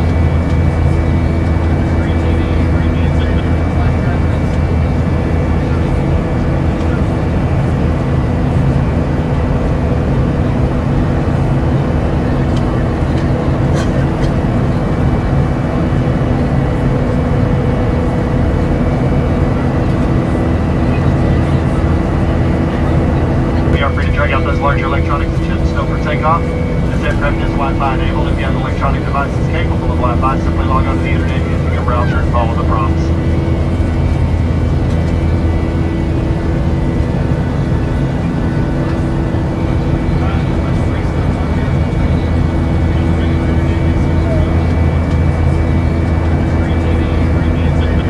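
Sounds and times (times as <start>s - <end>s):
jet airliner drone: 0.0s - 48.0s.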